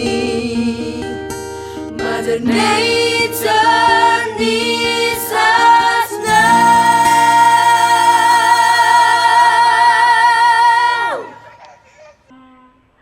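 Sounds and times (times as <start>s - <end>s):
musical backing: 0.0s - 11.3s
person singing: 0.0s - 11.6s.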